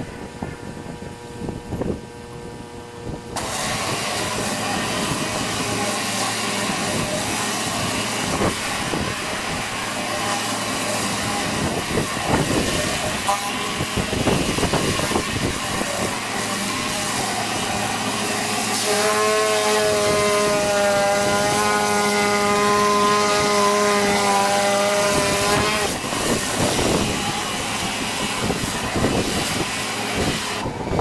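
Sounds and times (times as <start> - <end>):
pitched machine hum: 0.0 - 31.0
pressure washer spray hiss: 3.4 - 30.7.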